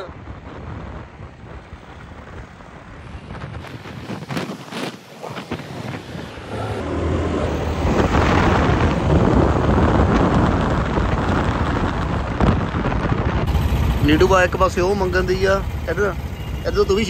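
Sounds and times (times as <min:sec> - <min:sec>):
motorcycle and road noise: 0:00.0 - 0:17.0
wind rushing over microphone: 0:00.0 - 0:17.0.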